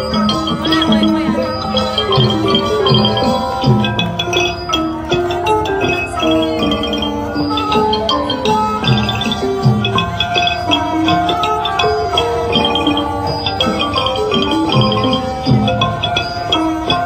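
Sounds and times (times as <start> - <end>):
high metallic strikes: 0.0 - 17.0
xylophone-like mallet melody: 0.0 - 17.0.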